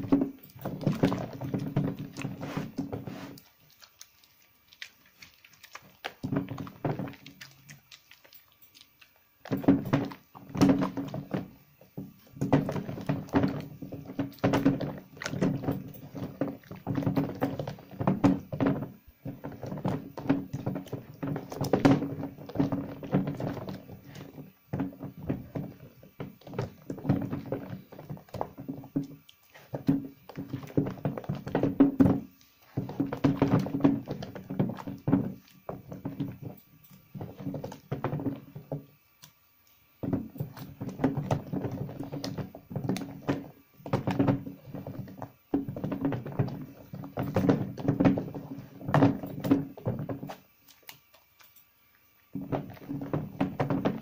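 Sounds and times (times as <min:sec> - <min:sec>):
wet squelching and sloshing: 0:00.0 - 0:51.6.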